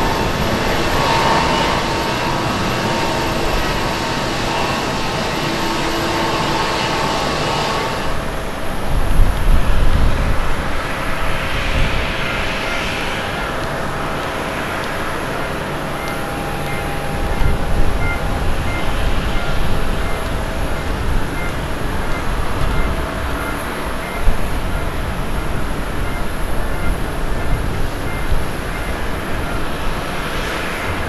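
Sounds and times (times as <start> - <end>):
jet engines rushing with whine: 0.0 - 31.0
low aircraft rumble: 0.0 - 31.0.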